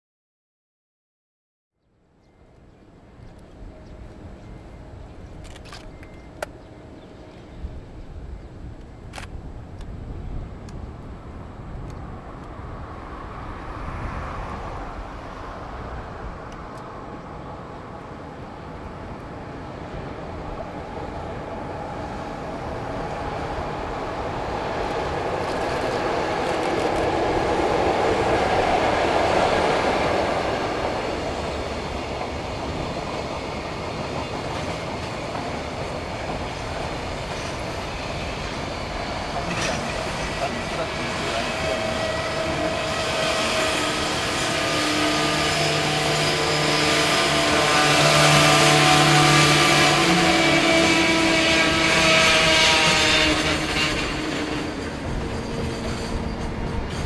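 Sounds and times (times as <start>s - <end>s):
electric locomotive passing: 2.0s - 57.0s
train wheels rumbling on rails: 2.3s - 57.0s.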